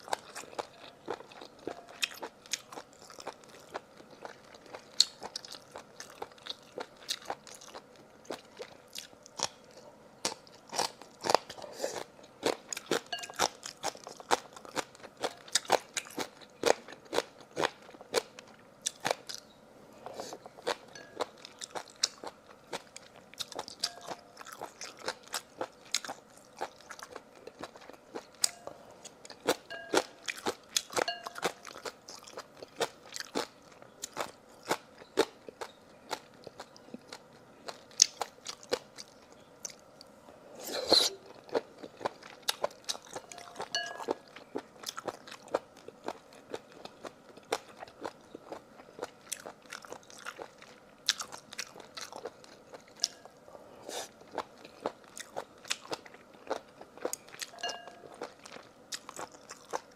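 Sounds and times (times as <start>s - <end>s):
person chewing crunchy food: 0.0s - 19.4s, 20.0s - 59.9s.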